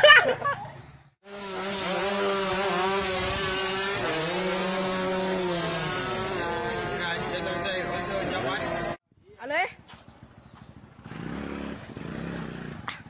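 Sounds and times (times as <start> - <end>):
engine running: 0.8 - 9.0, 9.8 - 13.0.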